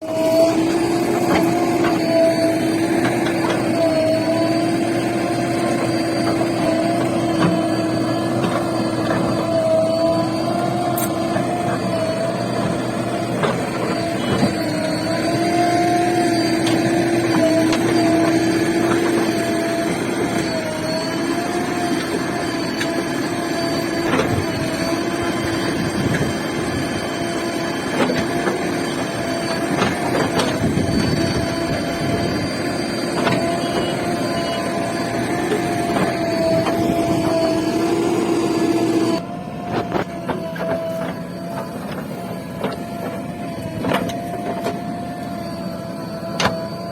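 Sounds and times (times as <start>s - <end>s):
diesel engine whining: 0.0s - 46.9s.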